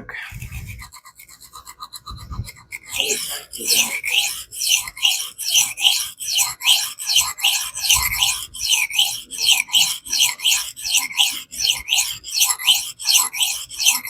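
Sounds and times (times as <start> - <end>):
knife blade scraping on whetstone: 0.3 - 14.0.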